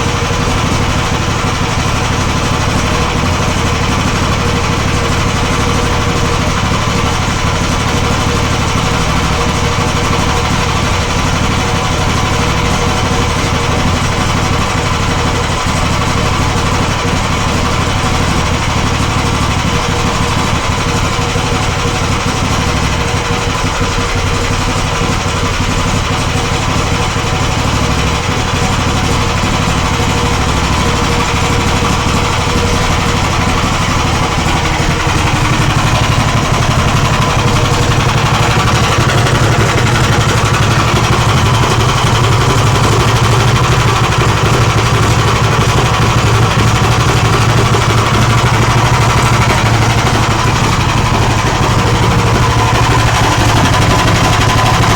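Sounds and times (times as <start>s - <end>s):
petrol engine running: 0.0s - 54.9s.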